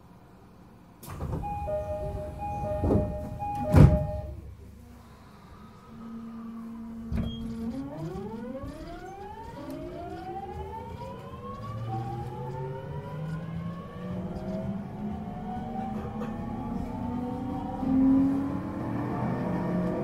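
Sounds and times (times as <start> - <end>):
electric train accelerating: 1.0 - 20.0.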